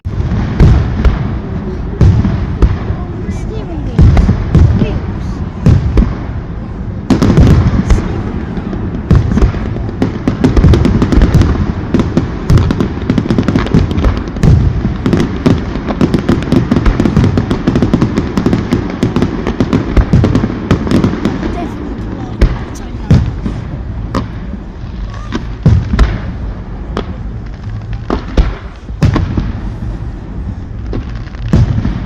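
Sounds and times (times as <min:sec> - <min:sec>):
firework bangs and crackles: 0:00.0 - 0:32.0
firework booms: 0:00.0 - 0:32.0.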